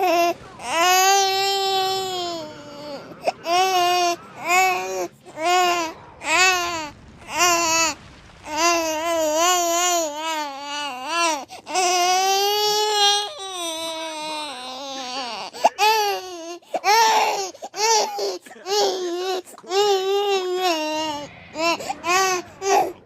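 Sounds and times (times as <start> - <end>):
infant crying: 0.0 - 23.0.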